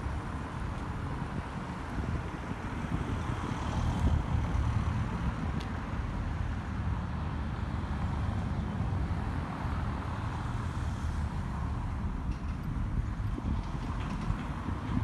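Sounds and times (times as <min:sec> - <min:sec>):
low rumble of outdoor noise: 0:00.0 - 0:15.0.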